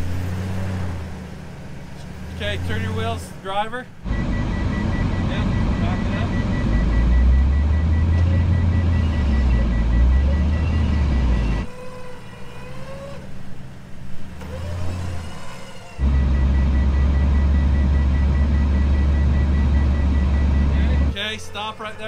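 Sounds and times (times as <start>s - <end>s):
truck engine idling: 2.0s - 12.6s, 13.2s - 22.0s.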